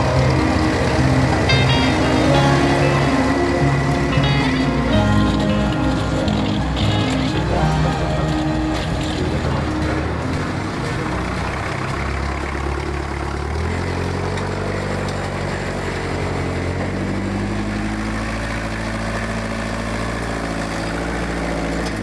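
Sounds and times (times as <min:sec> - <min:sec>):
wheel loader engine running: 0:00.0 - 0:22.0.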